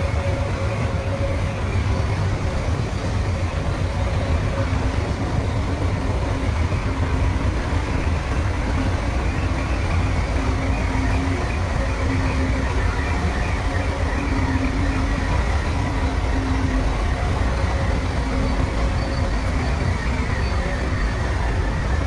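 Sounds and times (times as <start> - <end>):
bulldozer diesel engine running: 0.0 - 22.0
faint whining of tracks: 0.0 - 22.0.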